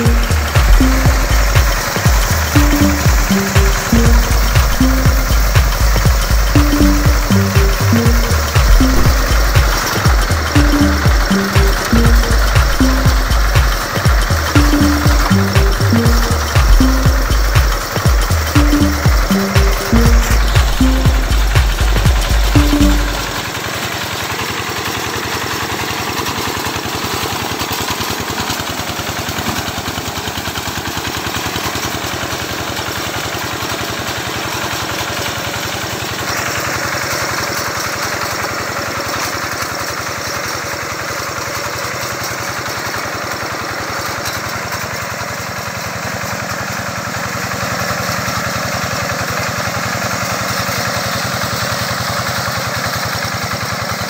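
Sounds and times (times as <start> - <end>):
mower engine running: 0.0 - 54.0.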